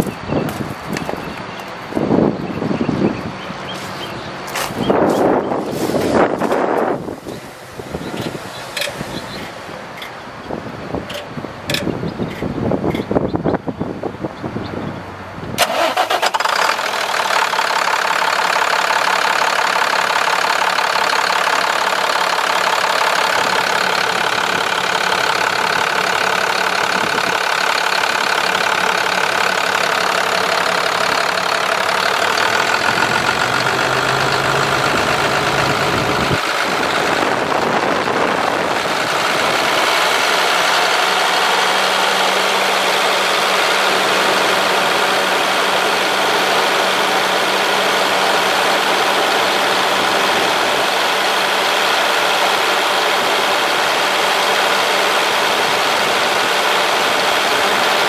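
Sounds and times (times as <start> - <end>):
diesel engine starting and idling: 0.0 - 14.2, 15.0 - 58.0.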